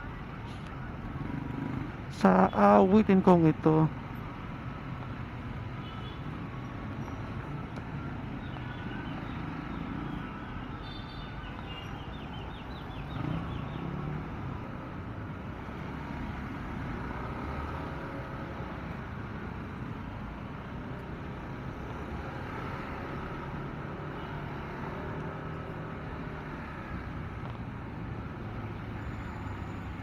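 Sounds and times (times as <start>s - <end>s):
heavy road traffic: 0.0s - 30.0s.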